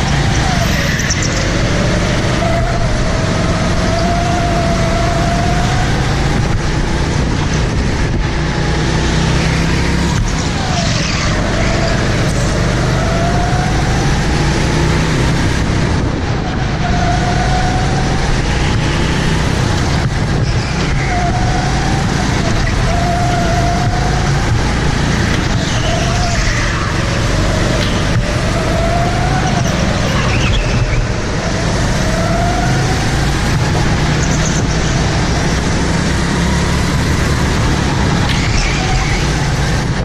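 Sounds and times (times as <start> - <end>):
go-kart engine running hard: 0.0 - 40.0.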